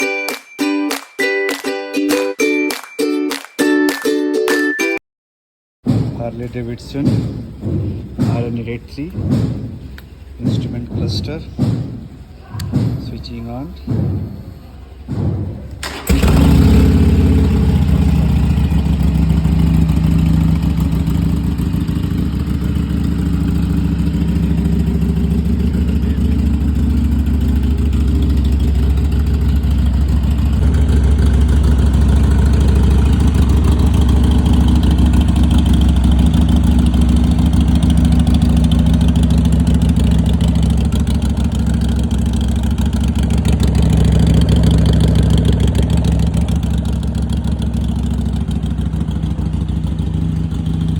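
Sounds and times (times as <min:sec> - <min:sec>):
motorcycle engine starting and idling: 0:05.9 - 0:50.9.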